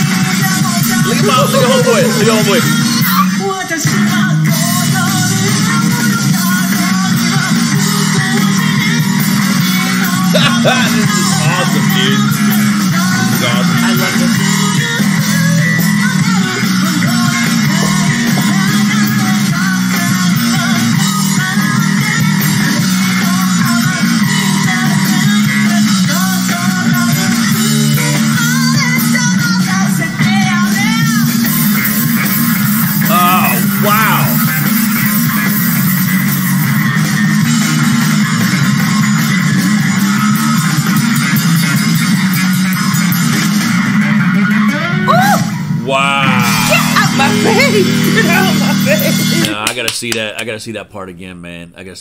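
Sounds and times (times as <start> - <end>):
electric bass riff: 0.0 - 3.3, 3.9 - 49.6
drum kit: 0.0 - 50.6.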